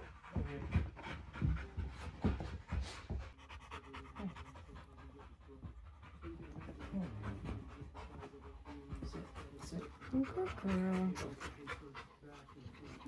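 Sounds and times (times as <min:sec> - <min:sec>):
dog panting rapidly: 0:00.0 - 0:13.0.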